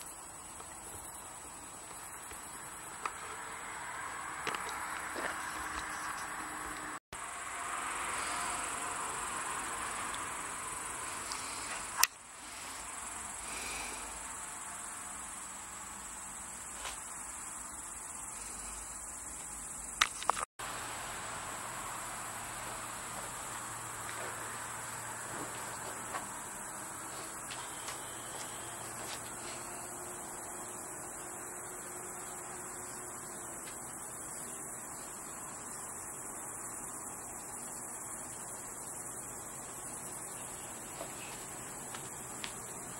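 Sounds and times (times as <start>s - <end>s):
crickets chirring: 0.0s - 42.9s.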